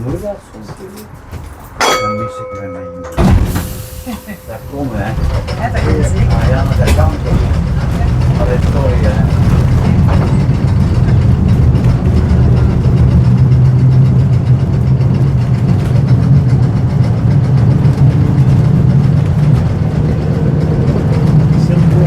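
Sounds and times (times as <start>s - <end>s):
tram humming: 0.0s - 22.0s
wheels rattling and clicking: 3.6s - 22.0s.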